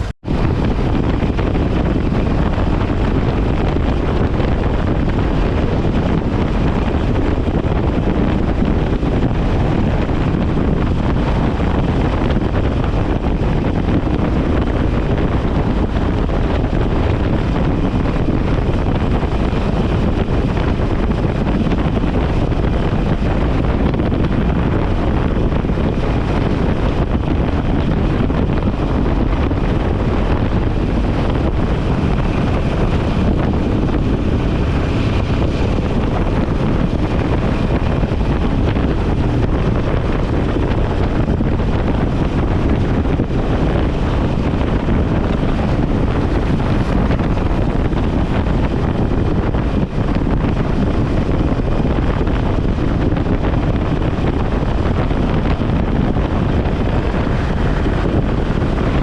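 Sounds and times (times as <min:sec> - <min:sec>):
motorcycle engine: 0:00.0 - 0:59.0
road noise: 0:00.0 - 0:59.0
wind rushing over microphone: 0:00.0 - 0:59.0.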